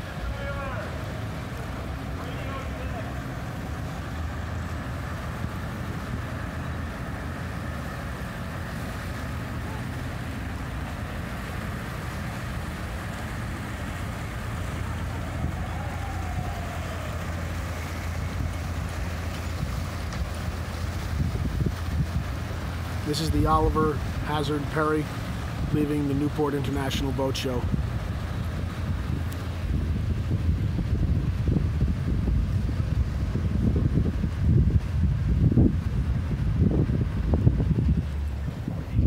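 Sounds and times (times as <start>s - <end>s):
boat engine rumbling: 0.0s - 39.0s.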